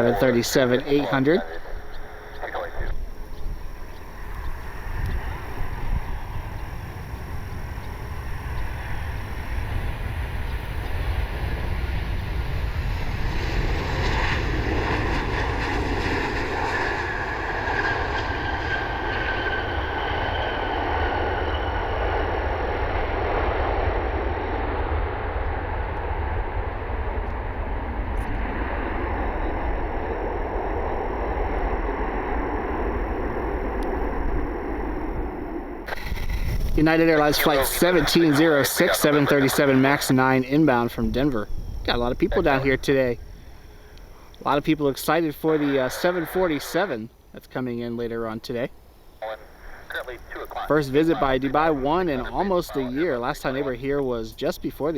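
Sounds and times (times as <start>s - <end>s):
wind on microphone: 0.0s - 44.4s
jet engines on approach: 0.0s - 54.9s.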